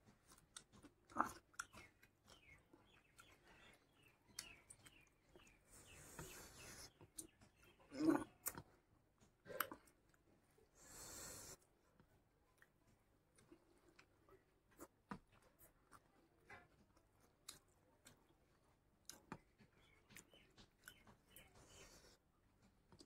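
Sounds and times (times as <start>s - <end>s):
person chewing wetly: 0.0s - 10.6s, 12.0s - 23.0s.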